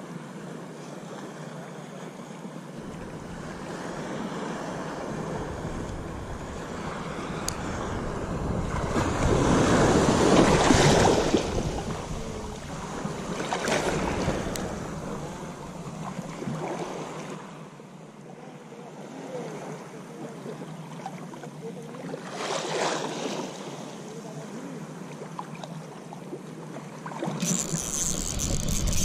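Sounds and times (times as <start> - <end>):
small waves splashing: 0.0 - 29.0.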